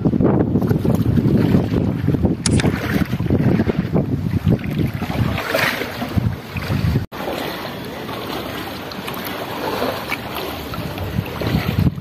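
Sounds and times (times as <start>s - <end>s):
sea waves: 0.0s - 12.0s
wind: 0.0s - 12.0s.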